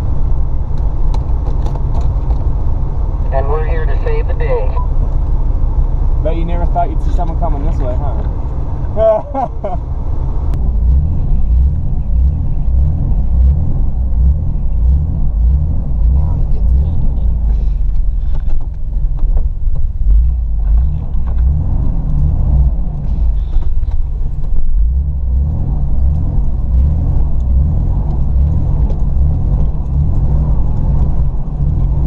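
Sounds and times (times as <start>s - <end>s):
car engine rumbling: 0.0s - 32.0s.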